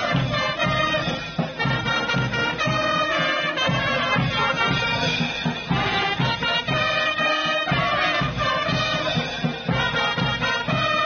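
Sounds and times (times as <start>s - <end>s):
bass drum beat: 0.0s - 11.0s
military wind band playing: 0.0s - 11.0s.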